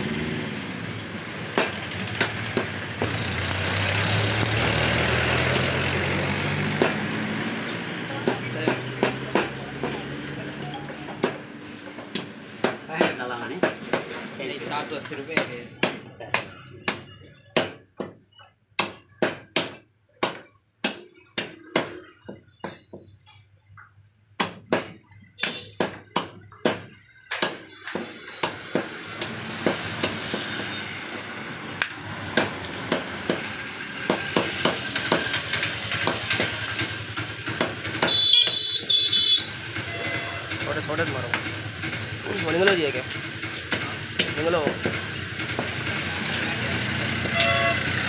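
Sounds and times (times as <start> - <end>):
cleaver chopping meat and bone: 1.5 - 23.2, 24.4 - 38.9, 41.2 - 47.4.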